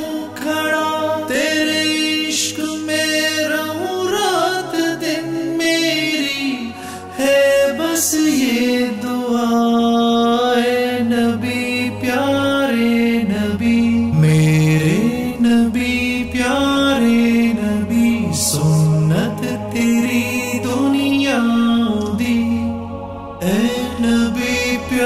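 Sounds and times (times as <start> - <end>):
low steady drone: 0.0 - 25.0
voices singing slow melody: 0.0 - 25.0.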